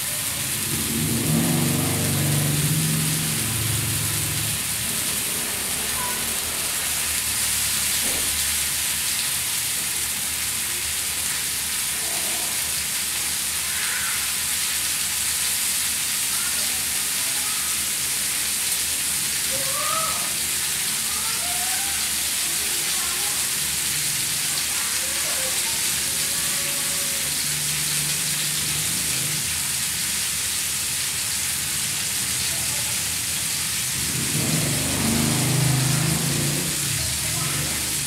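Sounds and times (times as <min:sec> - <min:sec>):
meat sizzling in pan: 0:00.0 - 0:38.0.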